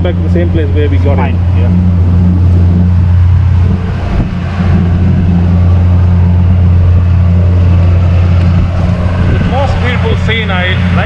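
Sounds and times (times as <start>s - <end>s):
boat motor droning: 0.0s - 11.0s
churned water wash: 0.0s - 11.0s.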